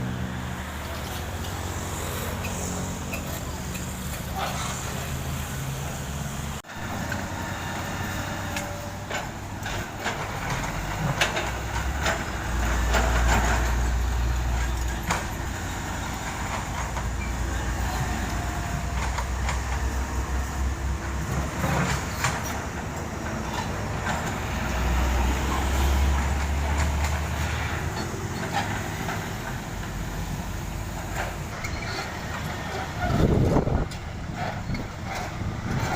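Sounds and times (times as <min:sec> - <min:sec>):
diesel engine rumble: 0:00.0 - 0:35.9.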